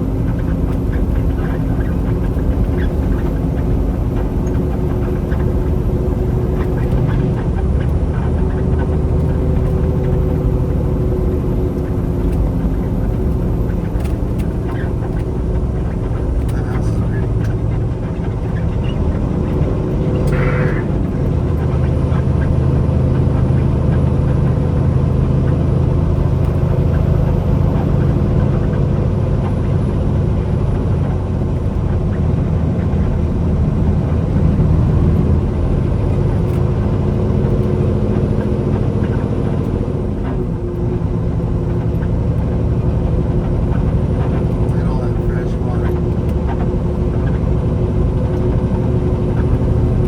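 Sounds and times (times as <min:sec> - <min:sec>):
road noise: 0:00.0 - 0:50.0
truck diesel engine droning: 0:00.0 - 0:50.0.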